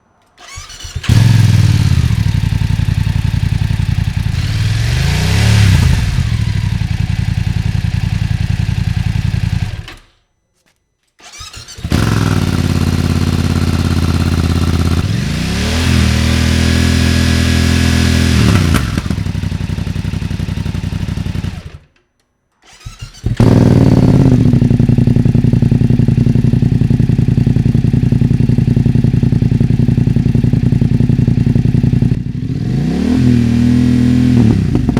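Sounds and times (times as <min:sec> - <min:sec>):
motorcycle engine idling and revving: 0:00.4 - 0:10.0, 0:11.3 - 0:21.9, 0:22.7 - 0:34.9.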